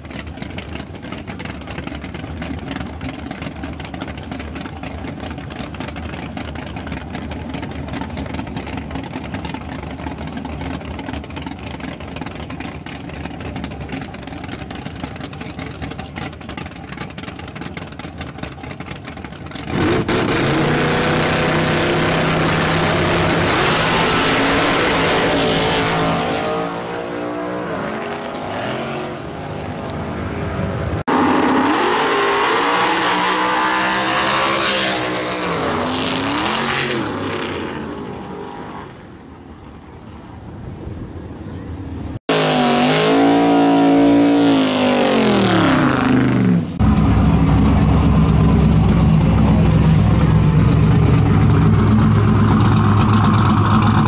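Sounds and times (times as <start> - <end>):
pickup engine running low: 0.0 - 27.8, 32.6 - 54.0
race car engines at full throttle: 0.0 - 54.0.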